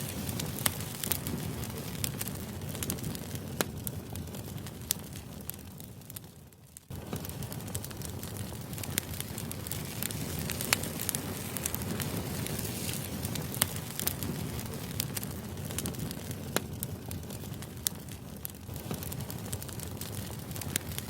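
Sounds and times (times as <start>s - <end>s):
sharp crackles and pops: 0.0s - 21.0s.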